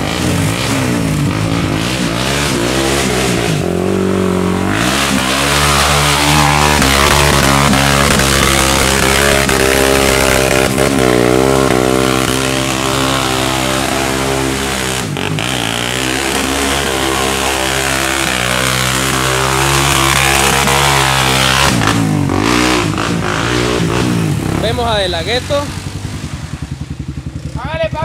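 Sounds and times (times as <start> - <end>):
quad engine revving: 0.0 - 28.0.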